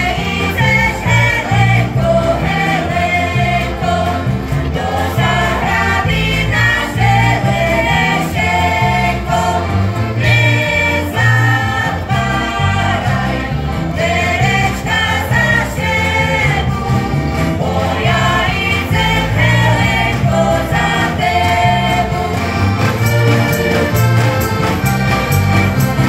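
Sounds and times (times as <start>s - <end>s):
bass line: 0.0s - 26.0s
button accordions playing: 0.0s - 26.0s
guitars: 0.0s - 26.0s
voices singing together: 0.0s - 26.0s.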